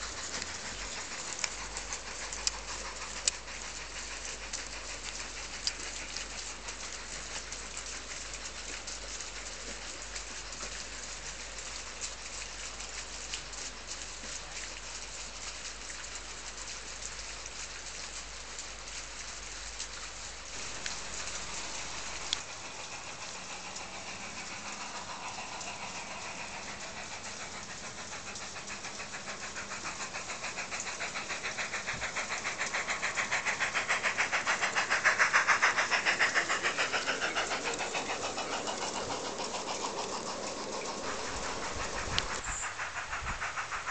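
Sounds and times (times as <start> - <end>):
model train wheels clicking on rails: 0.0 - 43.9.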